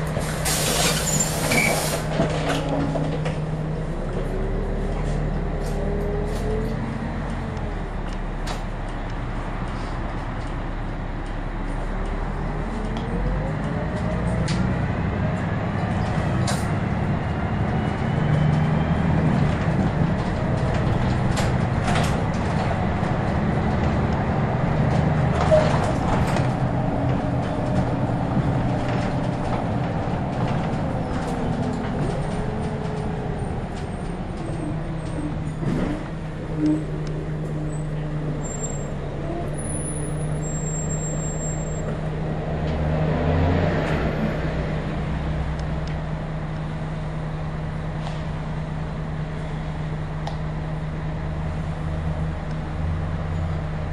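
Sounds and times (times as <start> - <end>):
bus body rattling and clicking: 0.0 - 43.0, 43.8 - 53.9
bus diesel engine running: 0.0 - 53.9.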